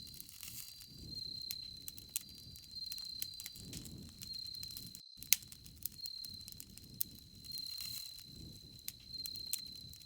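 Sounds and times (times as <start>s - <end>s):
campfire crackling: 0.0s - 10.0s
sharp pops of fire: 0.0s - 10.0s
crickets chirping: 0.1s - 10.0s.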